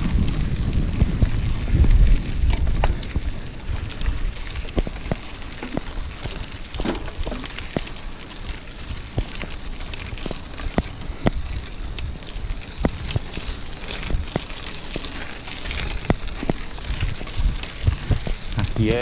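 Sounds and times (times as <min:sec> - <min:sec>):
bike rolling over gravel: 0:00.0 - 0:19.0
wind buffeting microphone: 0:00.0 - 0:19.0.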